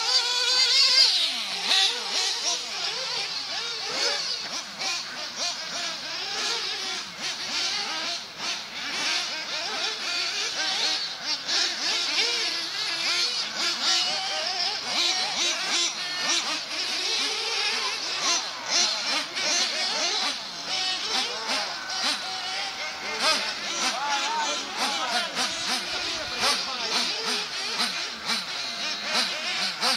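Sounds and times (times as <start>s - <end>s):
rc car engines whining and revving: 0.0s - 29.9s.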